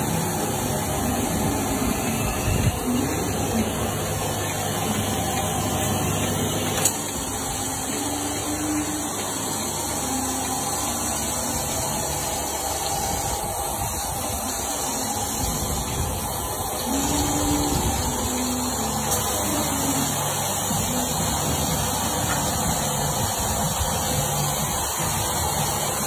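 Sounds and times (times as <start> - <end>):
milking machine humming and hissing: 0.0 - 26.0.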